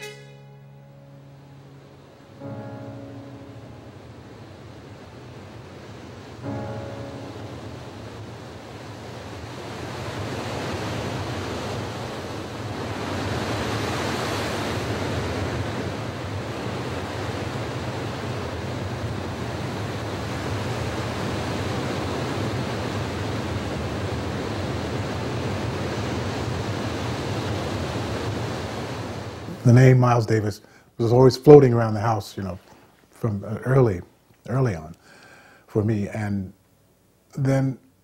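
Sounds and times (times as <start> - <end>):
steady rushing noise: 0.0 - 30.5.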